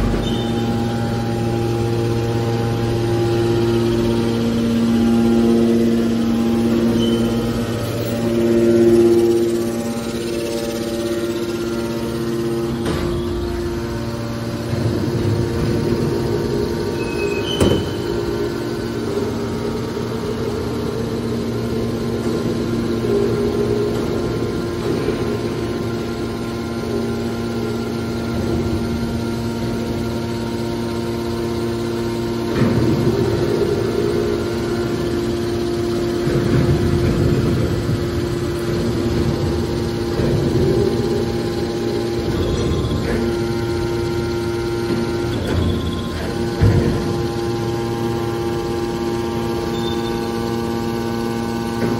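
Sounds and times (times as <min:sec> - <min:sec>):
hydraulic power unit humming: 0:00.0 - 0:51.9.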